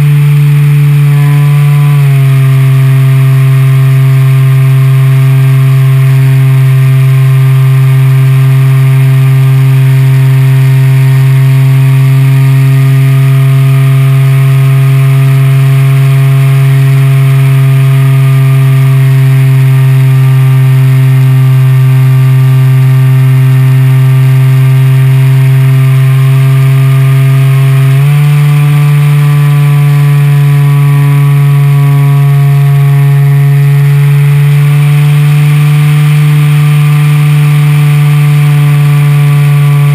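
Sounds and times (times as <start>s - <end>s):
electric motor and propeller drone: 0.0s - 39.9s.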